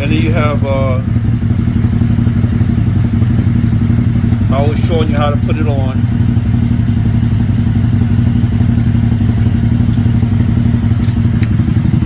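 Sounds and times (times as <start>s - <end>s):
engine idling through muffler: 0.0s - 12.0s.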